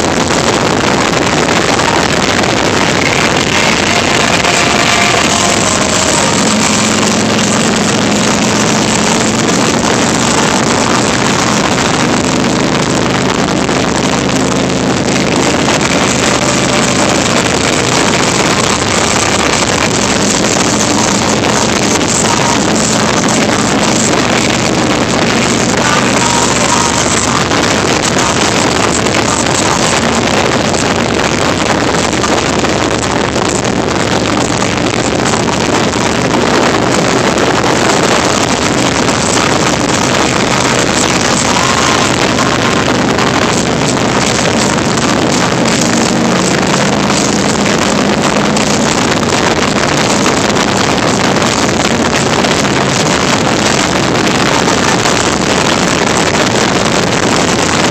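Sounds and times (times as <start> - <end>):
motorcycle engine running: 0.0 - 57.9
wind on microphone: 0.0 - 57.9.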